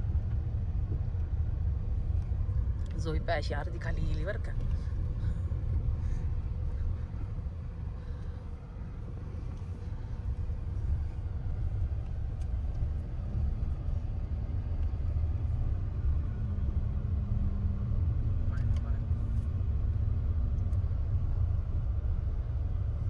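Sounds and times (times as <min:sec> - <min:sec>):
car rumbling on dirt track: 0:00.0 - 0:23.0.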